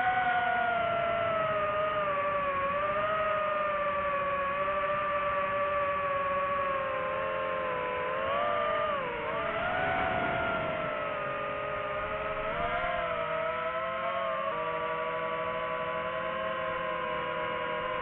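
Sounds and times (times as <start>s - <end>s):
drone motors and propellers whining: 0.0s - 18.0s.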